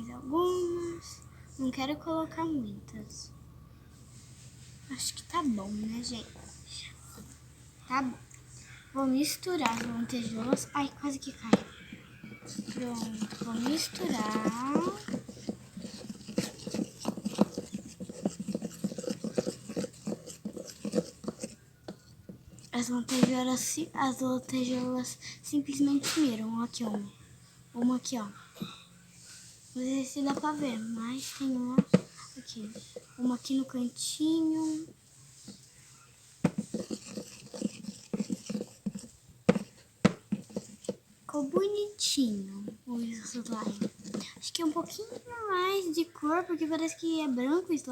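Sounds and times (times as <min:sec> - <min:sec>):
slime squelching while stirred: 0:04.1 - 0:27.2, 0:27.8 - 0:47.9.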